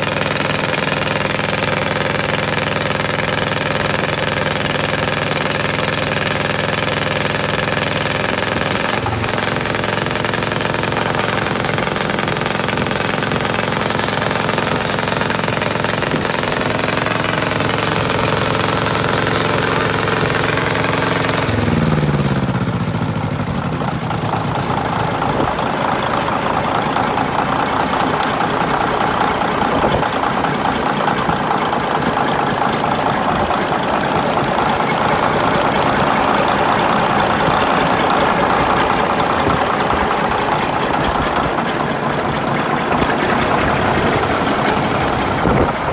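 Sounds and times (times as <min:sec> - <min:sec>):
small petrol engine running: 0:00.0 - 0:45.9.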